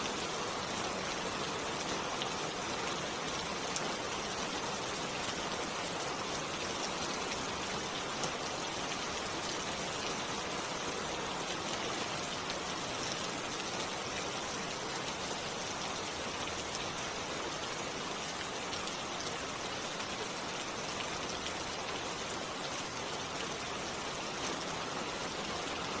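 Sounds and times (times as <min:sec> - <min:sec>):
rain falling on leaves: 0:00.0 - 0:26.0.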